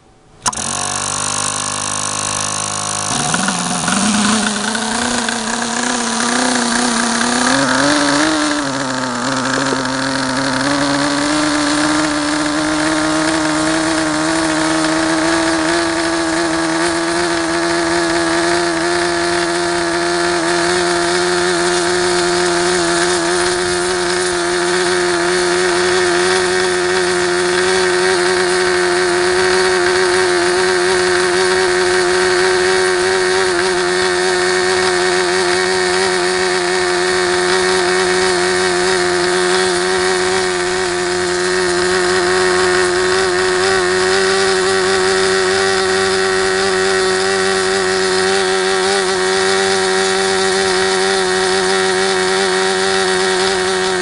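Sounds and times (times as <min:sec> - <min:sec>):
model engine high-pitched buzz: 0:00.0 - 0:54.0.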